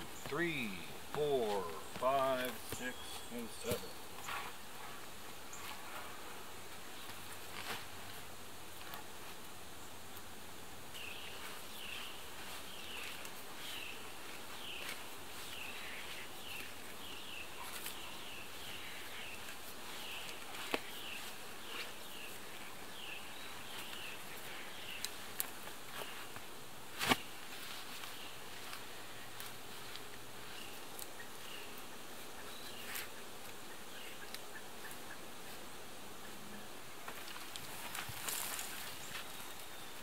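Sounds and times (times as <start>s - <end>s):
outdoor ambience: 0.0s - 40.0s.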